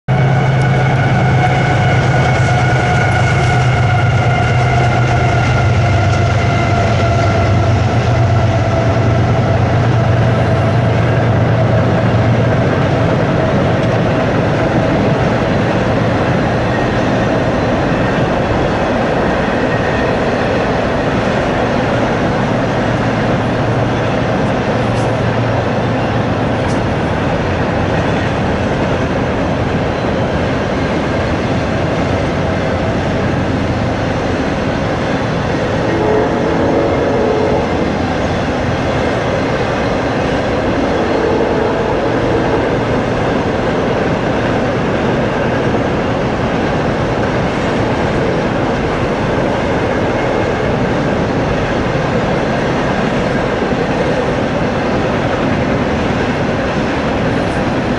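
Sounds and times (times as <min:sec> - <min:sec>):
diesel locomotive engine drone: 0:00.1 - 0:57.9
locomotive whine: 0:00.1 - 0:57.9.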